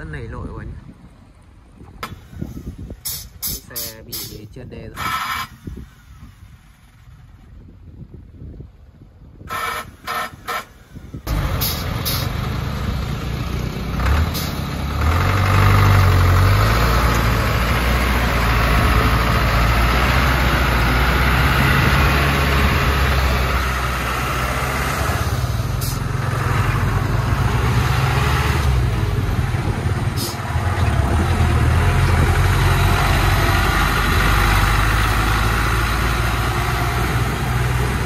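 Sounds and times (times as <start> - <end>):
diesel truck engine under load: 0.0 - 38.0.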